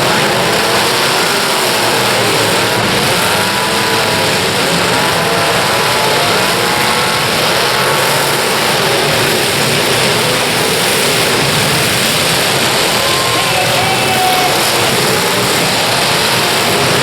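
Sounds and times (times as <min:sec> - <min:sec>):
car engines revving together: 0:00.0 - 0:17.0.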